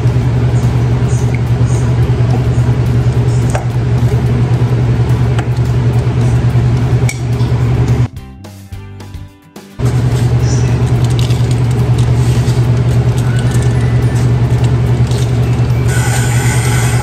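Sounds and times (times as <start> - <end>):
low machine hum: 0.0 - 8.1, 9.8 - 17.0.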